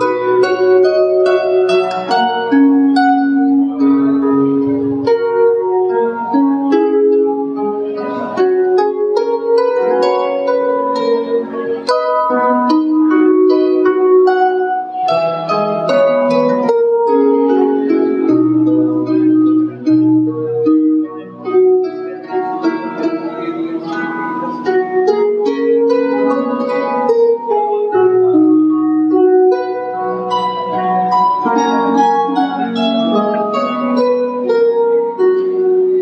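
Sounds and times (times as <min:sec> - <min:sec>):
harp playing: 0:00.0 - 0:36.0.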